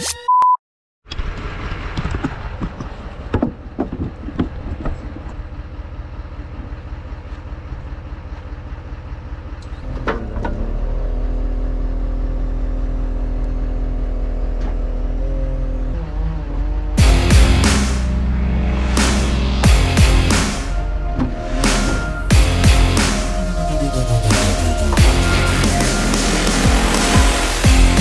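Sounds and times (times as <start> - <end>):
truck engine drone: 1.1 - 28.0.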